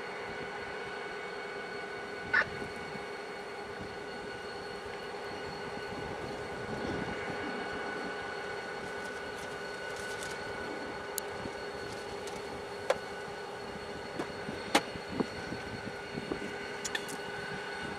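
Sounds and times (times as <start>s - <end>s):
train wheels rolling on rails: 2.7s - 17.9s.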